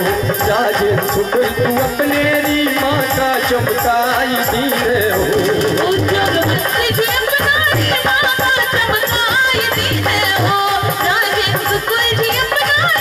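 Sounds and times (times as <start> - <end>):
music with fast drum beat: 0.0 - 13.0.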